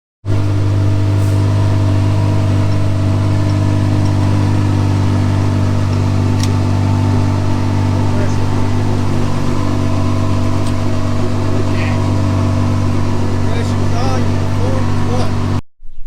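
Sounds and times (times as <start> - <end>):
diesel engine running: 0.2 - 15.6.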